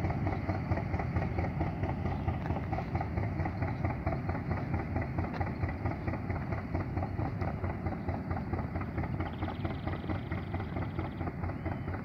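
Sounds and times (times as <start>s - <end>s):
locomotive diesel engine throbbing: 0.0s - 12.0s.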